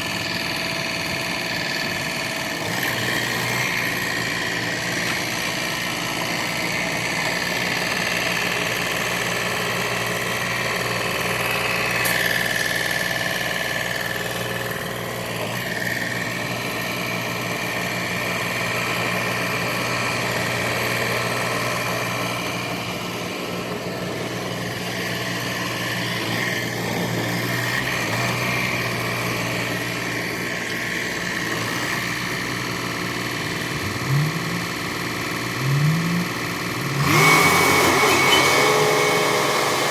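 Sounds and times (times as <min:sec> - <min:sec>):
stump grinder engine whining: 0:00.0 - 0:39.9.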